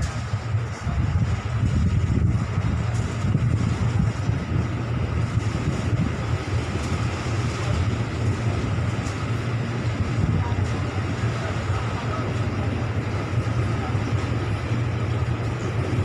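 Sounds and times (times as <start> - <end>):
vehicle rumbling along railway track: 0.0 - 16.0.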